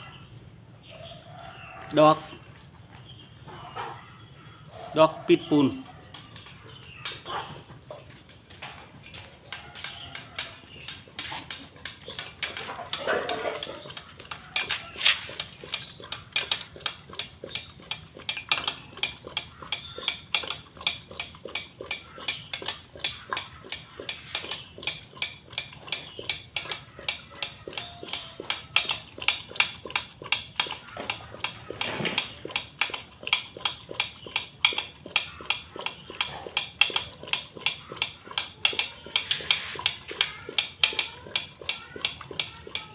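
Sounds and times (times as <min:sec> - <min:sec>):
dog chomping and lapping: 0:01.0 - 0:42.9.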